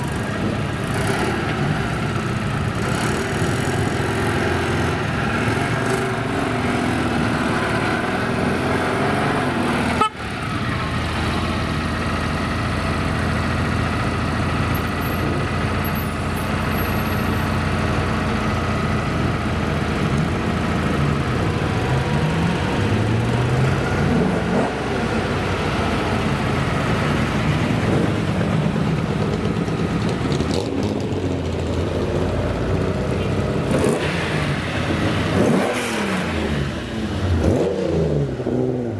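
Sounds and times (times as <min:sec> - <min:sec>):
car engines revving passing by: 0:00.0 - 0:38.9.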